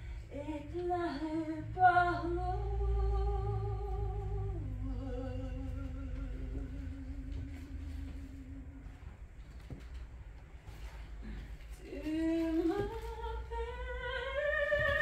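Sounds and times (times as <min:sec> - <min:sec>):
woman singing wordless held notes: 0:00.0 - 0:09.2, 0:11.2 - 0:15.0.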